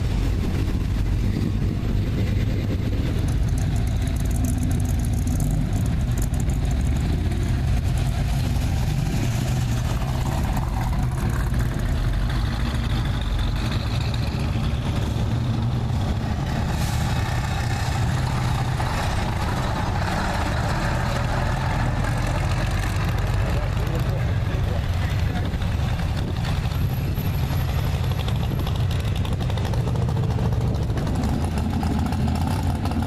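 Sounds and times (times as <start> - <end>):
vehicle engines driving past: 0.0 - 33.0.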